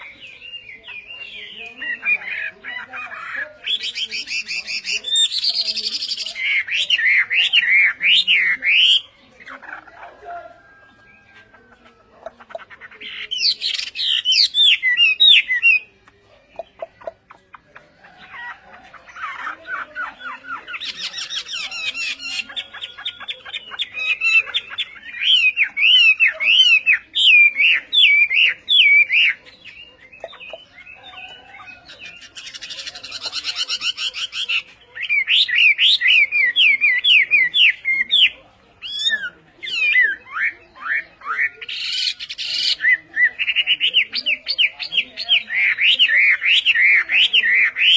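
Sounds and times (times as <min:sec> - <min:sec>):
songbird singing whistled notes: 0:00.0 - 0:09.6, 0:10.6 - 0:47.9.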